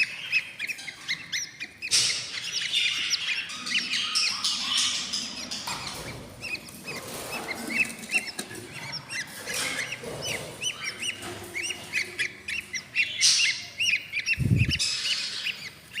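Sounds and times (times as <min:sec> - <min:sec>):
budgie chicks cheeping: 0:00.0 - 0:16.0.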